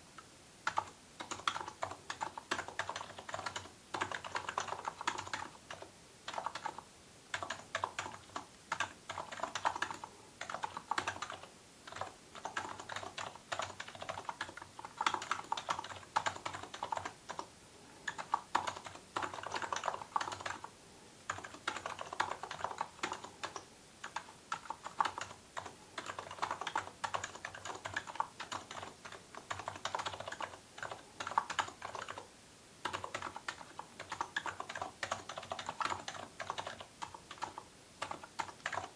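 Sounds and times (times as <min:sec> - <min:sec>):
soft keyboard typing: 0:00.2 - 0:38.9.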